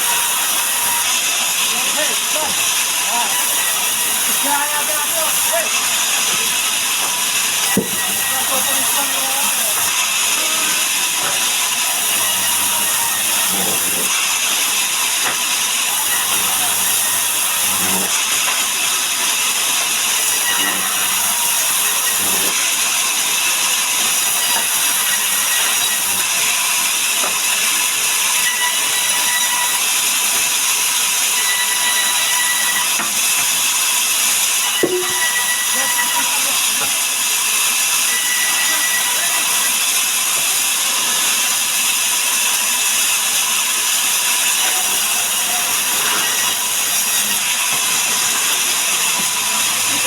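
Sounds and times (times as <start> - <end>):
sawmill machinery hissing: 0.0 - 50.0.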